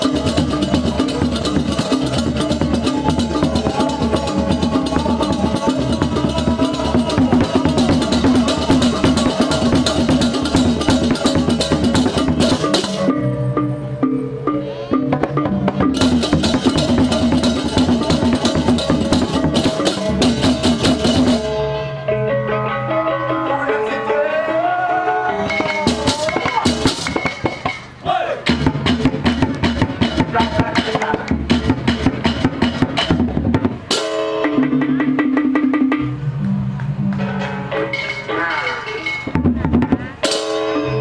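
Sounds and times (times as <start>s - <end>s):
cymbals and drums clashing: 0.0s - 13.2s, 15.0s - 21.9s, 25.5s - 36.2s, 37.2s - 41.0s
soft melodic percussion music: 0.0s - 21.8s, 25.4s - 41.0s.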